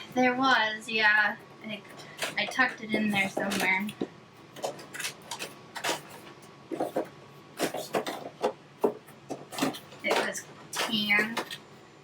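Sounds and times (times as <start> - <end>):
rustling of items: 1.7 - 11.8.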